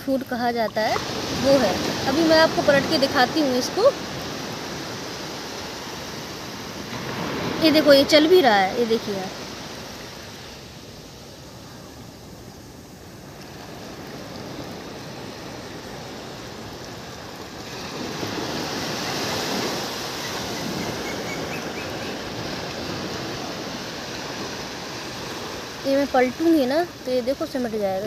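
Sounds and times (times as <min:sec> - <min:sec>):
surf washing up beach: 0:00.0 - 0:28.0.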